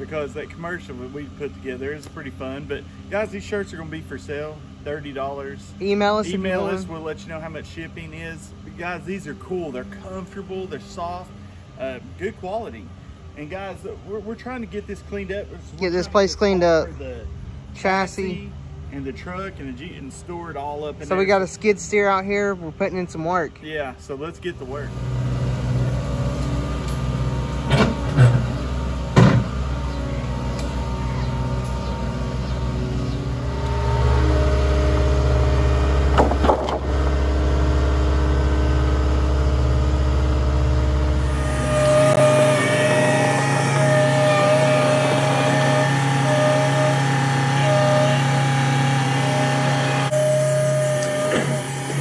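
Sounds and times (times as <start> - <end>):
skid steer engine running: 0.0 - 17.0, 24.0 - 52.0.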